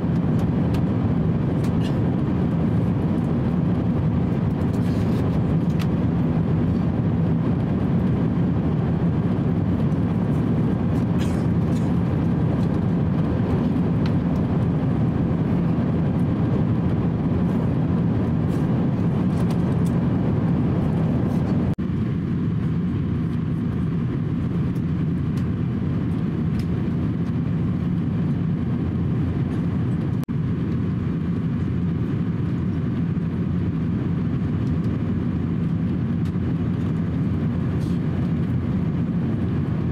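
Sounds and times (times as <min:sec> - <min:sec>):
airflow rush and engine drone: 0:00.0 - 0:39.9.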